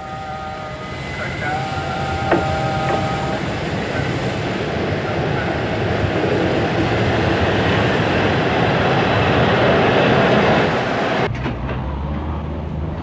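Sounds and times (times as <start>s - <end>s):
steam locomotive hissing steam: 0.0s - 11.3s.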